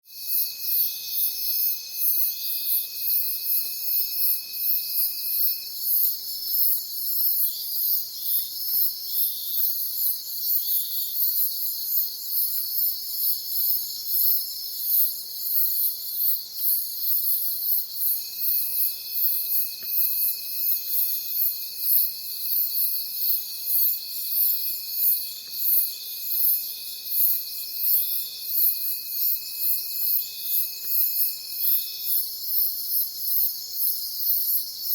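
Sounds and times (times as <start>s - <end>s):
insect chorus chirring: 0.1s - 34.9s.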